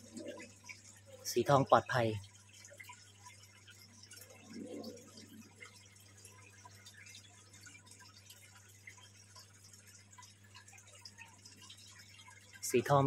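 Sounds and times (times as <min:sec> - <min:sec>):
water dripping and trickling: 0:00.0 - 0:13.0.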